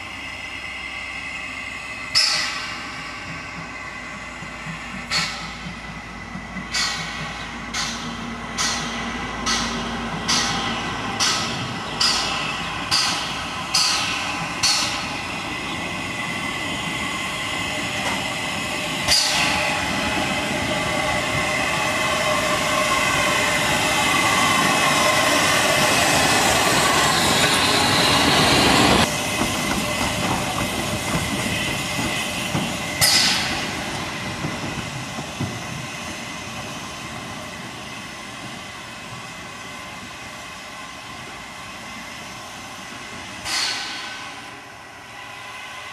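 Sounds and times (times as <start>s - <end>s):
steam hissing: 0.0s - 45.9s
steam locomotive exhaust chuffs: 0.0s - 45.9s.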